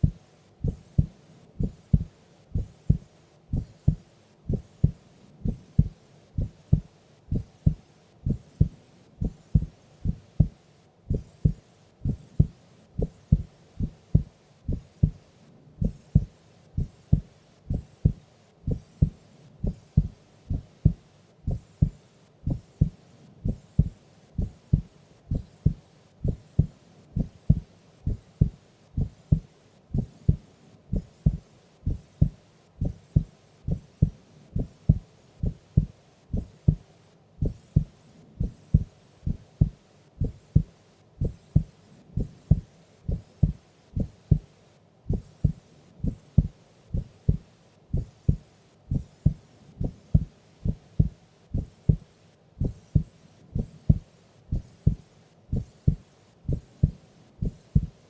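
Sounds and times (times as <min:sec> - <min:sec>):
heartbeat thumps: 0:00.0 - 0:15.2, 0:15.8 - 0:58.0.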